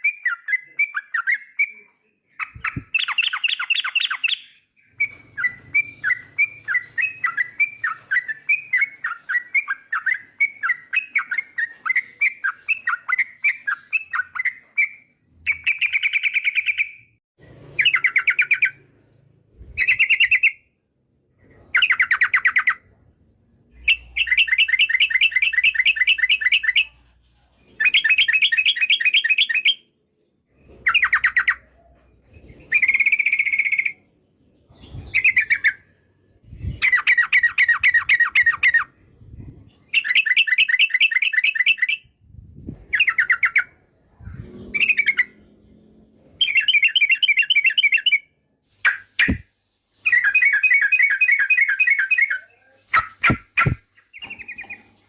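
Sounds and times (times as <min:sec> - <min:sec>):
bird chattering song: 0:00.0 - 0:17.2, 0:17.8 - 0:20.7, 0:21.4 - 0:23.0, 0:23.7 - 0:29.9, 0:30.7 - 0:42.2, 0:42.8 - 0:49.4, 0:50.1 - 0:55.0.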